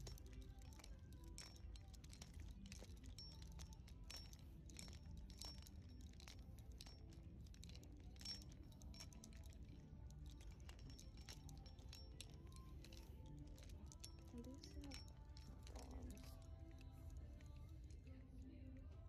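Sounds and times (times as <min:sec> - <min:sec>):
light clicks and clinks: 0:00.0 - 0:19.0.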